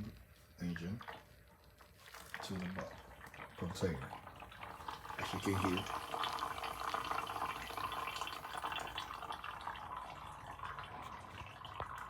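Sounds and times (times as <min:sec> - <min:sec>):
oil trickling into container: 0:00.0 - 0:12.0.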